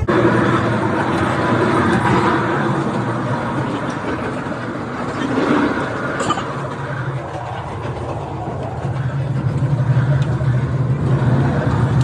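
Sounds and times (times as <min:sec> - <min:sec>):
train running: 0:00.0 - 0:12.0.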